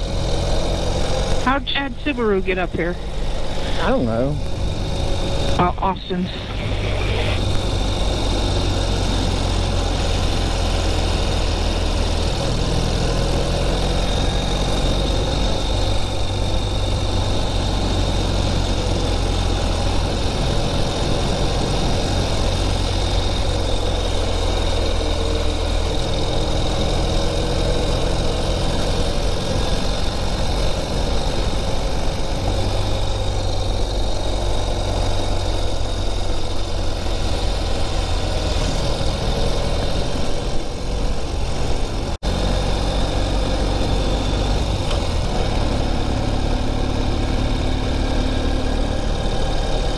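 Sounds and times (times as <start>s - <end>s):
motorcycle engine under way: 0.0s - 49.9s.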